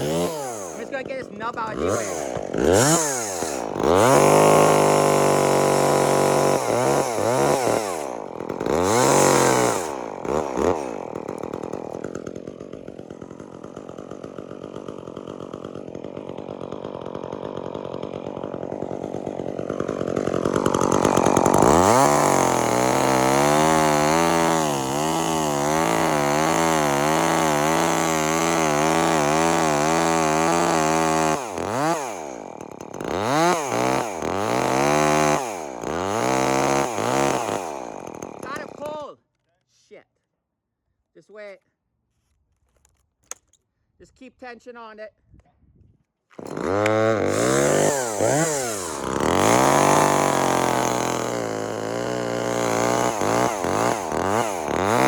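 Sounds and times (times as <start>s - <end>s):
chainsaw revving and idling: 0.0s - 39.1s, 46.3s - 55.0s.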